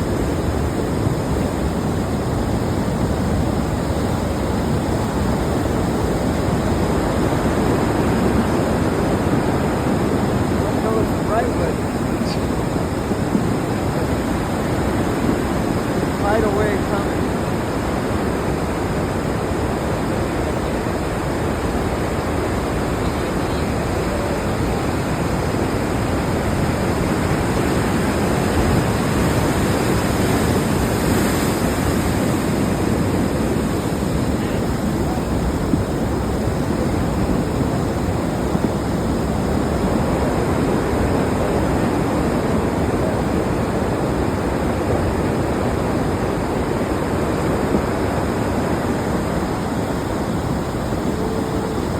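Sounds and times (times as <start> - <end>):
floodwater rushing: 0.0 - 51.9.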